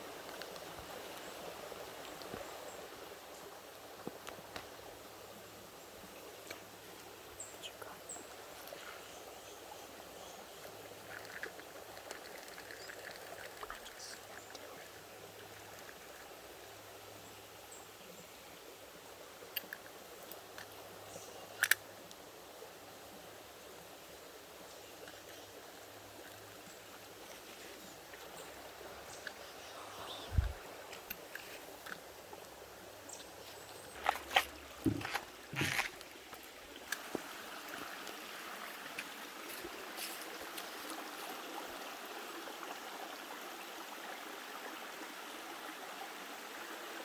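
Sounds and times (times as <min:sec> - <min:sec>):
creek water flowing: 0:00.0 - 0:47.0.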